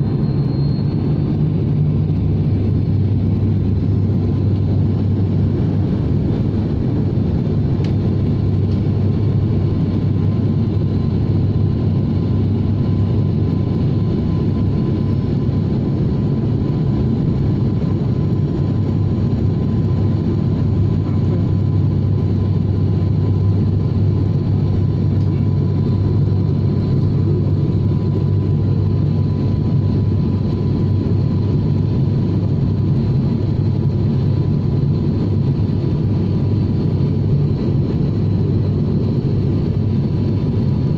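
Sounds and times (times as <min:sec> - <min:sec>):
airliner cabin engine drone: 0:00.0 - 0:40.9
faint steady whine: 0:00.0 - 0:40.9.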